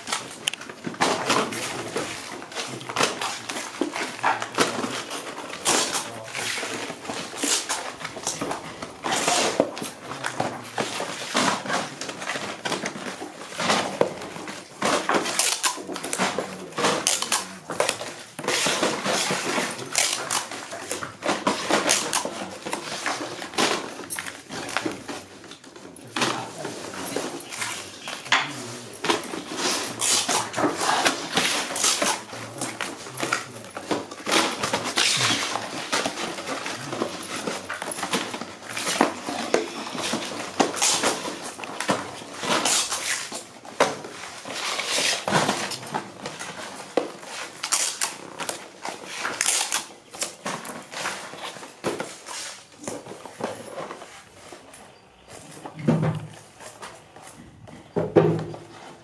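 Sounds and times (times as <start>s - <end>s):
paper and foil rustling: 0.0s - 59.0s.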